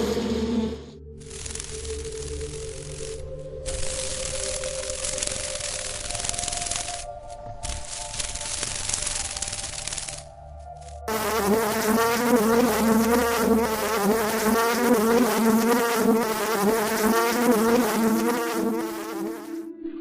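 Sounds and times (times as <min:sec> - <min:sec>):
insect wings buzzing: 0:01.1 - 0:19.7.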